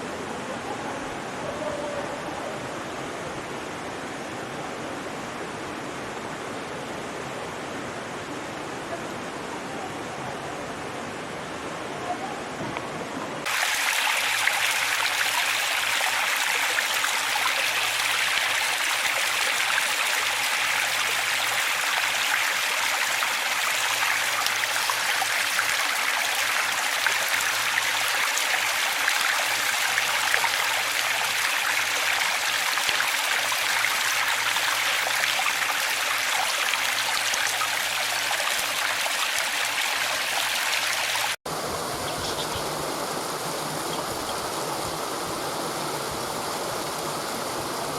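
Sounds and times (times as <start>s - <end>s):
waterfall rushing: 7.6s - 47.9s.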